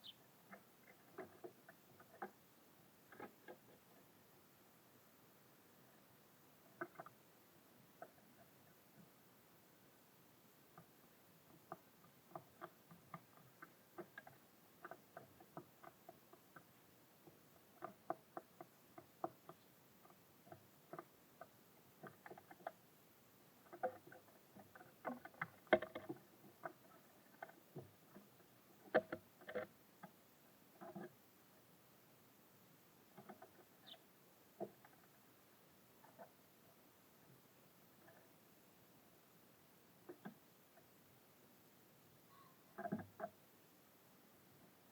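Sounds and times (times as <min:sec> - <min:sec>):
birds pecking on feeder: 0:00.0 - 0:04.1, 0:06.6 - 0:09.1, 0:10.6 - 0:32.0, 0:32.9 - 0:41.1, 0:42.7 - 0:43.5.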